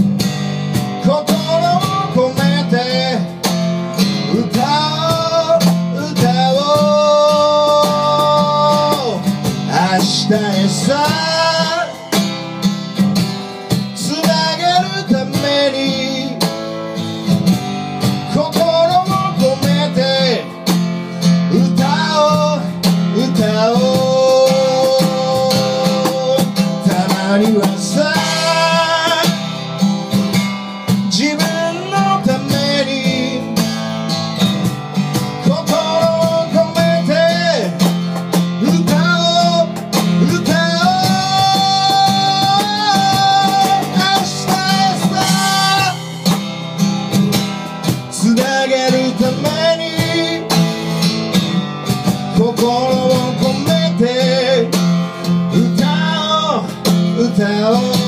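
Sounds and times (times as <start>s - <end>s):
guitar strumming: 0.0s - 58.0s
person singing: 1.0s - 12.3s, 14.0s - 16.6s, 18.2s - 20.6s, 21.2s - 29.7s, 31.0s - 33.6s, 35.2s - 37.9s, 38.5s - 46.2s, 47.9s - 51.0s, 52.2s - 58.0s.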